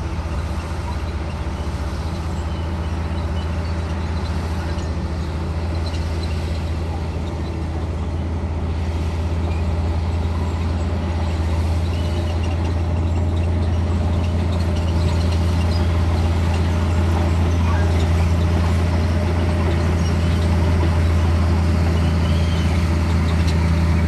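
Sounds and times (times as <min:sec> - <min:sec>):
bulldozer diesel engine droning: 0:00.0 - 0:24.0.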